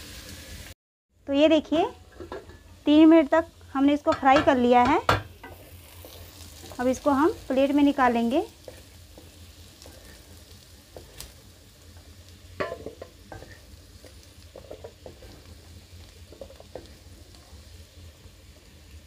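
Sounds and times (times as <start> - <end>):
oil sizzling: 0.0 - 19.0.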